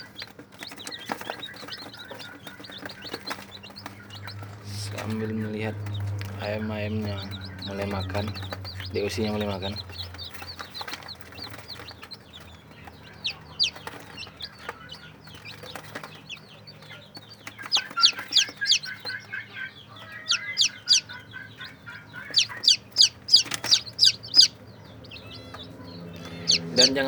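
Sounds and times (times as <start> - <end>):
chicks peeping: 0.0 - 27.0.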